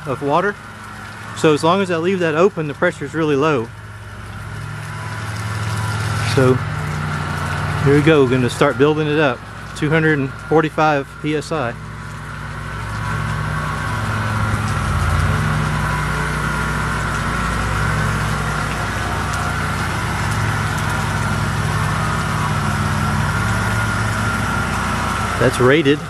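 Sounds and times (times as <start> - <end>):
pressure washer running: 0.0 - 26.0.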